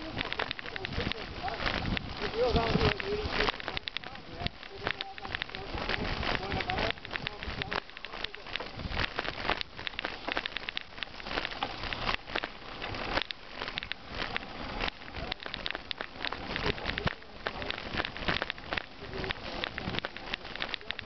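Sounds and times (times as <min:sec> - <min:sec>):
bike tyres crunching gravel: 0:00.0 - 0:21.0.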